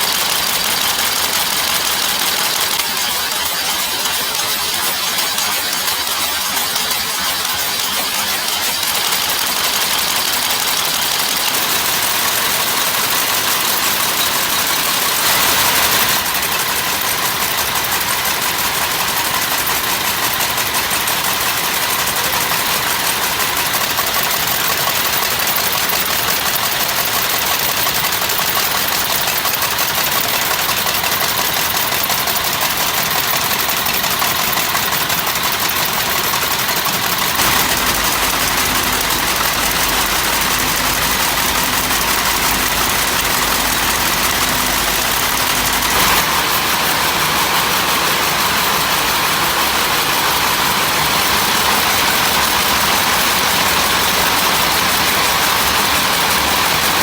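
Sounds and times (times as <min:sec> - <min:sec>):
machinery running: 0:00.0 - 0:57.0.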